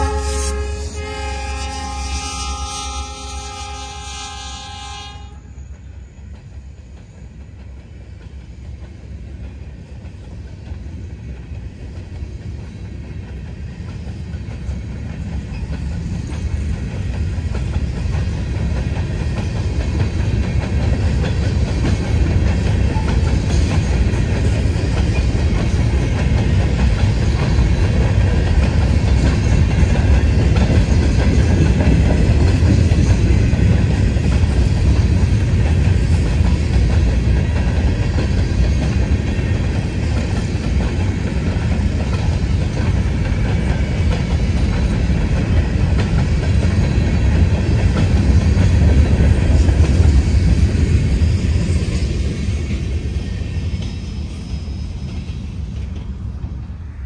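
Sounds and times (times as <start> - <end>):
freight train wheels clattering on rails: 4.7 - 57.0.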